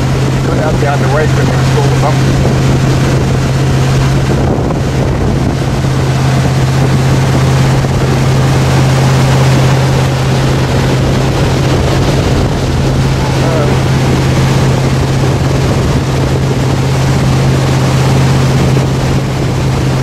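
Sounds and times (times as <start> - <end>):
boat engine drone: 0.0 - 20.0
water rushing: 0.0 - 20.0
wind buffeting microphone: 0.0 - 20.0.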